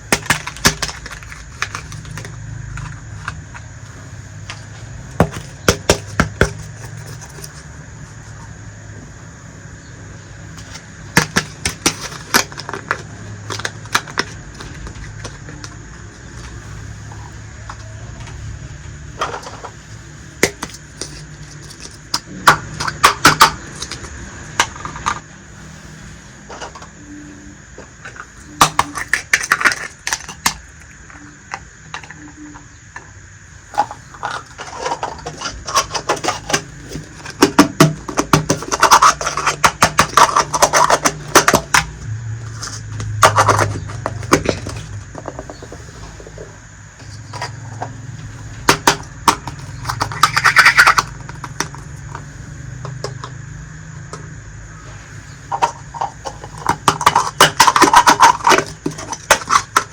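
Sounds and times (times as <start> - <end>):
toy pieces clicking and scraping: 0.0 - 3.7, 4.3 - 8.5, 10.5 - 18.5, 19.2 - 25.2, 28.0 - 32.6, 33.7 - 46.4, 47.0 - 53.4, 55.5 - 59.9
faint steady hum: 0.0 - 59.9.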